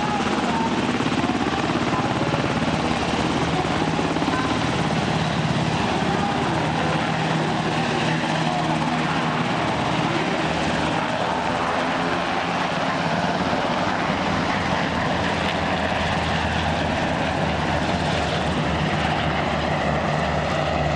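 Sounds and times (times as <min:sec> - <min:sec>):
helicopter engine noise: 0:00.0 - 0:20.9
helicopter rotor chop: 0:00.0 - 0:20.9.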